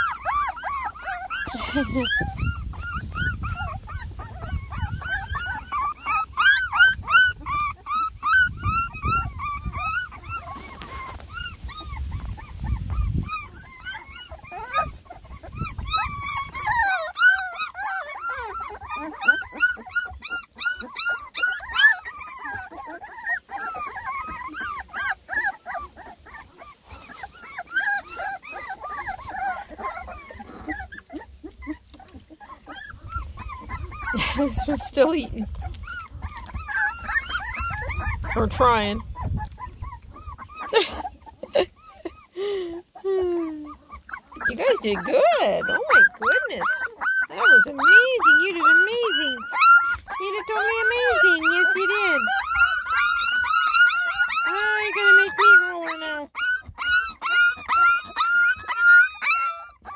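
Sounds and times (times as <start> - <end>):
puppies whining: 0.0 - 59.9.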